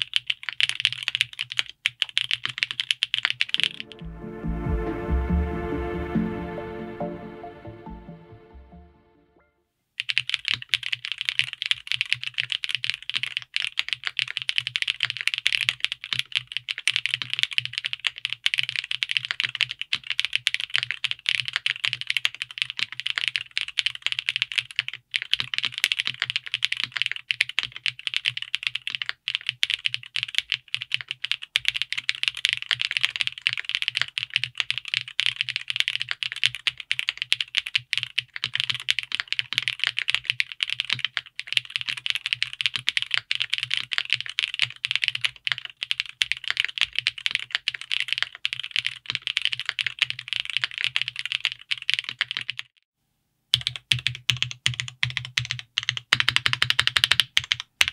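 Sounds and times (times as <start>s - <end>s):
fast mechanical keyboard typing: 0.0s - 3.7s, 10.0s - 52.7s, 53.5s - 57.9s.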